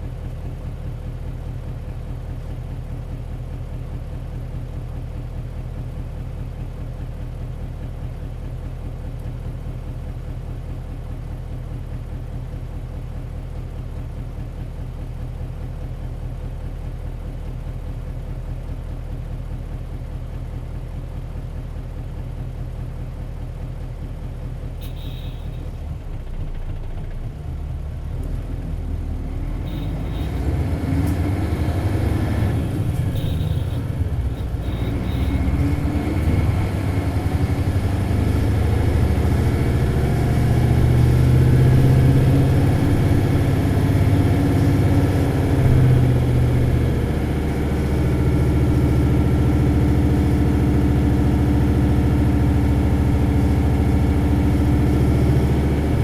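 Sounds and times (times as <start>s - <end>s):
diesel bus engine: 0.0s - 56.0s.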